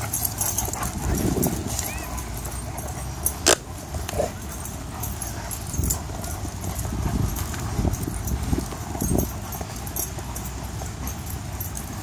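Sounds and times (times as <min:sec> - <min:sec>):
dogs thudding and scuffling: 0:00.0 - 0:12.0.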